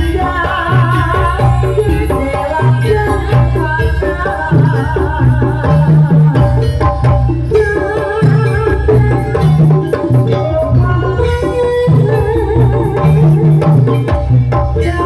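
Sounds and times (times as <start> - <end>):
pitched melody: 0.0 - 15.0
steady drumming: 0.0 - 15.0.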